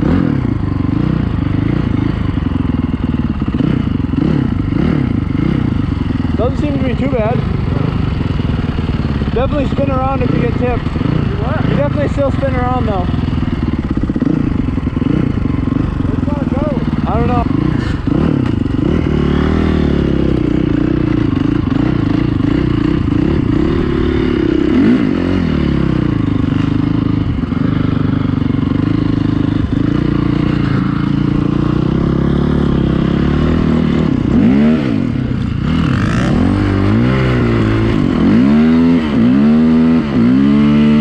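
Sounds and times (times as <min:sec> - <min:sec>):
dirt bike engine running hard: 0:00.0 - 0:41.0.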